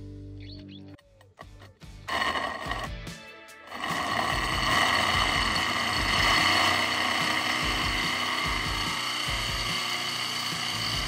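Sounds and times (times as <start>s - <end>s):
drill bit grinding into tile: 1.4s - 3.0s, 3.7s - 11.0s.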